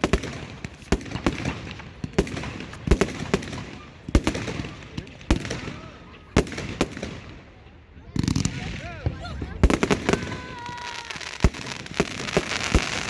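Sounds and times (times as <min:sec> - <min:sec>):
crowd noise: 0:00.0 - 0:13.0
fireworks exploding: 0:00.0 - 0:13.0.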